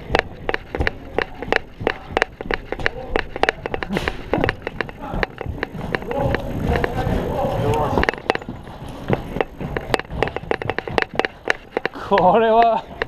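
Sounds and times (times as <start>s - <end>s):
quick footsteps: 0.0s - 13.0s.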